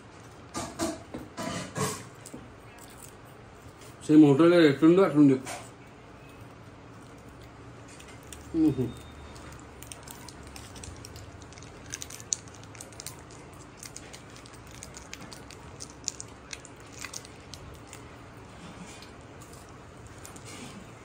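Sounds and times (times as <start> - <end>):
faint low room hum: 0.0 - 21.0
chewing: 2.2 - 4.0, 5.8 - 21.0.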